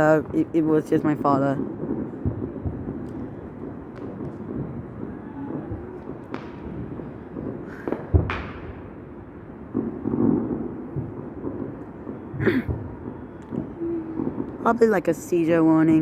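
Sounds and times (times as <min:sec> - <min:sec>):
fireworks popping and banging: 0:00.0 - 0:16.0.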